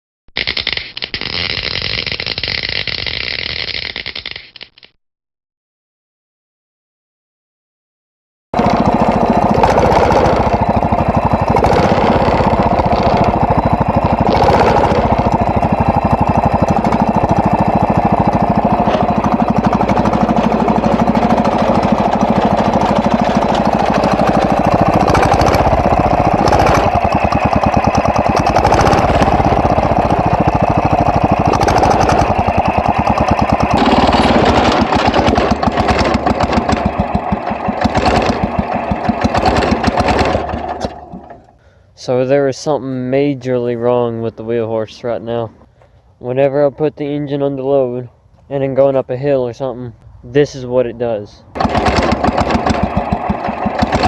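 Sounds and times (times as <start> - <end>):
tractor engine sputtering: 8.6 - 45.7, 46.5 - 54.0.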